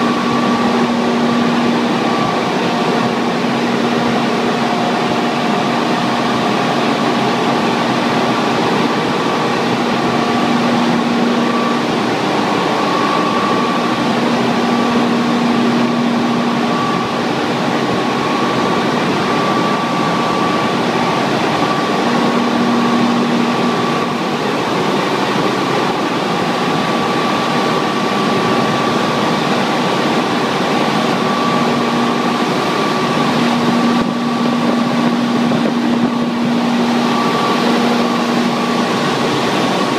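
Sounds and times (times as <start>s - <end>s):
generator hum and whine: 0.0s - 39.9s
turbine rushing noise: 0.0s - 39.9s.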